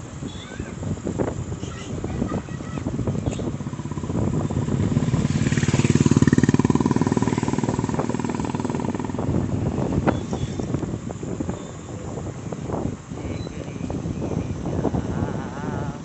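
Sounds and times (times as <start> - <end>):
motorcycle engine running: 2.9 - 16.0.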